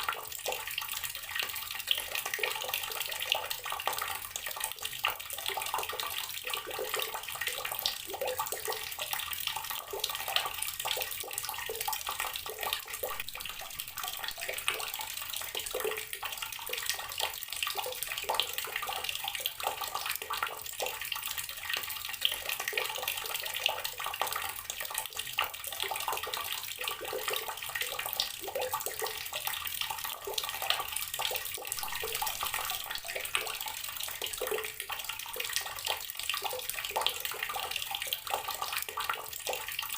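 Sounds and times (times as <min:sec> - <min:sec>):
water tap running and splashing: 0:00.0 - 0:39.9.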